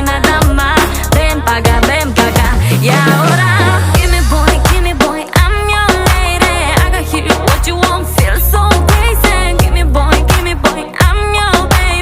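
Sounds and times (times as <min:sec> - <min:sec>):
pop music with heavy bass: 0:00.0 - 0:12.0.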